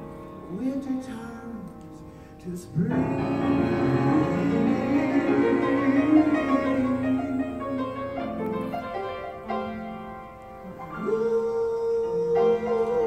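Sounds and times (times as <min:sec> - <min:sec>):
piano accompaniment: 0:00.0 - 0:13.0.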